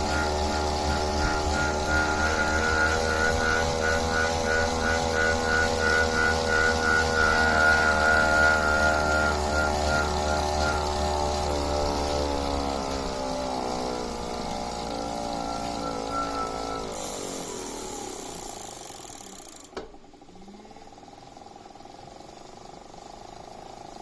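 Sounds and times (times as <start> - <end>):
bike trainer flywheel whining: 0.0 - 24.0.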